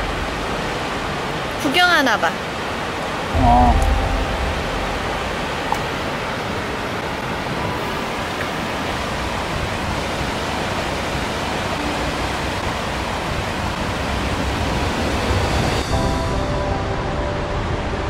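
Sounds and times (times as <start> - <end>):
river rapids rushing: 0.0 - 15.6.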